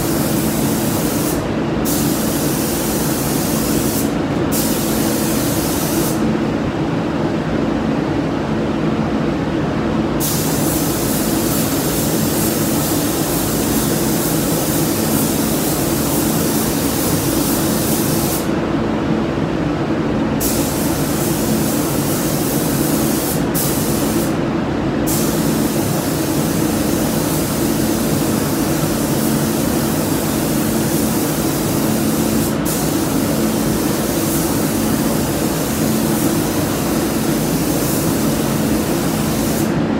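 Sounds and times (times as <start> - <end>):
paint spray gun hissing: 0.0 - 6.2, 10.2 - 18.5, 20.4 - 24.4, 25.1 - 39.7.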